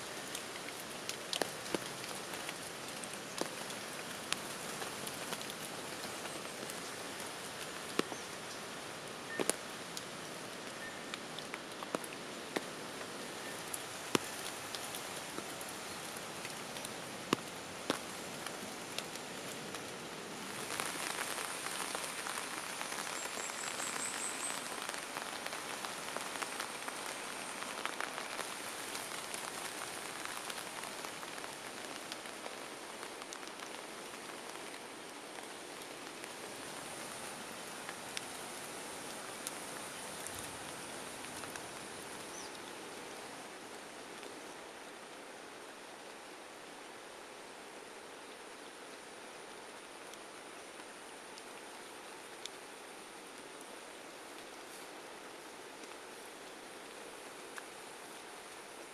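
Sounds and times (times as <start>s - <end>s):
rain patter: 0.0s - 58.9s.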